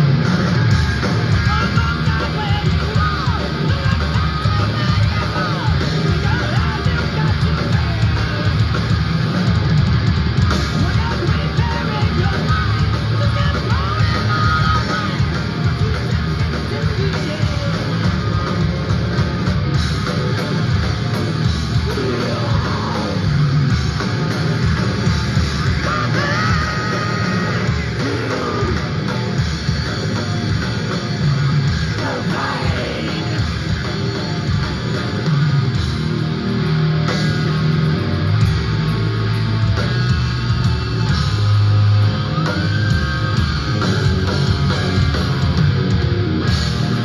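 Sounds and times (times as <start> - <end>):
thrash metal band playing: 0.0 - 47.0.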